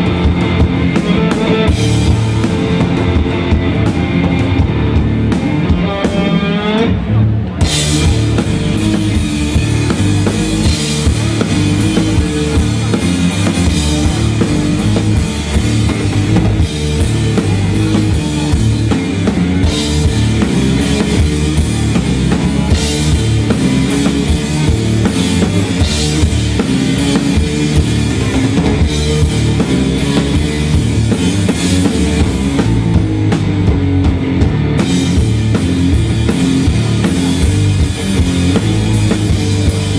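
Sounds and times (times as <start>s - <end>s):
drum kit playing: 0.0s - 39.9s
heavy electric guitar riff: 0.0s - 39.9s.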